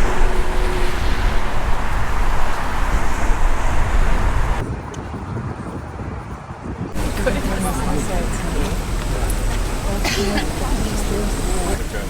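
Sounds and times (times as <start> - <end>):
train rumbling: 0.0 - 5.0, 6.9 - 12.0.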